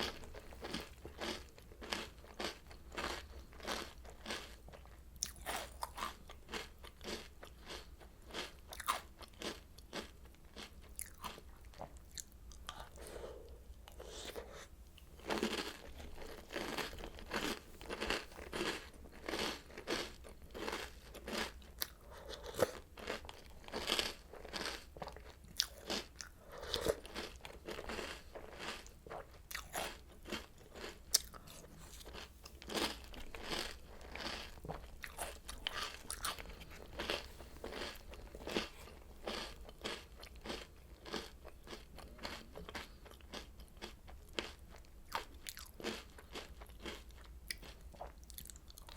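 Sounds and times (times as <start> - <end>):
cereal being chewed: 0.0 - 48.9.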